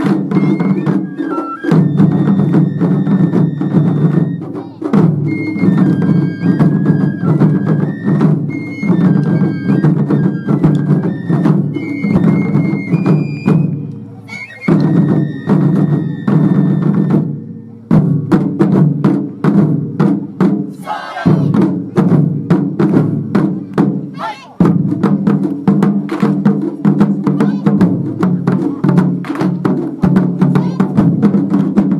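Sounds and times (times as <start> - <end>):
taiko drums playing: 0.0 - 14.0, 14.6 - 31.9.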